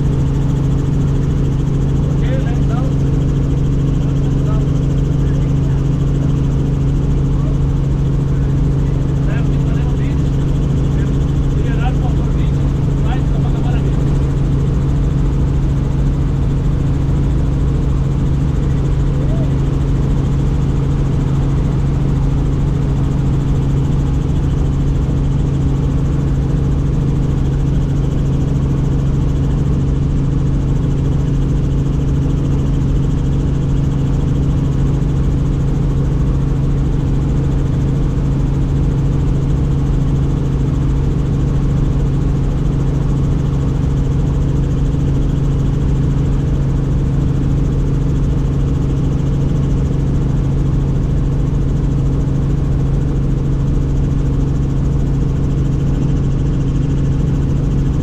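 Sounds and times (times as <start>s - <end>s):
helicopter turbine and rotors drone: 0.0s - 58.0s.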